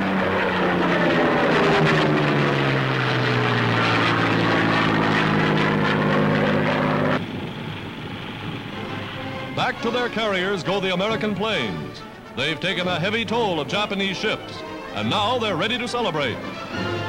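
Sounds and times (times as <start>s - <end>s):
propeller aircraft engines droning: 0.0s - 17.0s.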